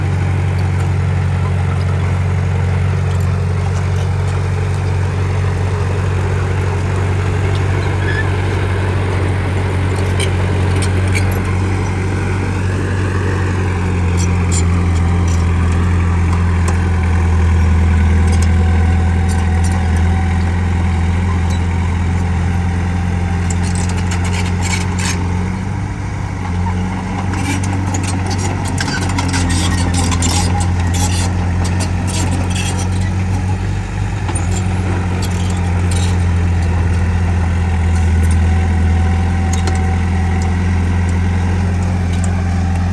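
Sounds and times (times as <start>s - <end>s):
bulldozer diesel engine: 0.0s - 42.9s.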